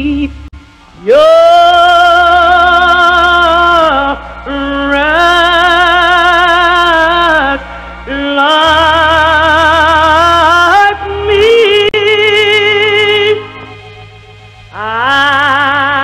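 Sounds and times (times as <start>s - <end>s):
low drone: 0.0s - 16.0s
melody of long held notes: 0.0s - 16.0s.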